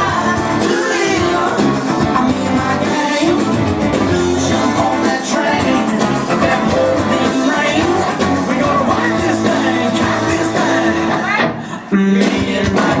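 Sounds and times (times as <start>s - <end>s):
electric guitar: 0.0s - 13.0s
live rock and roll band: 0.0s - 13.0s
person singing: 0.0s - 13.0s.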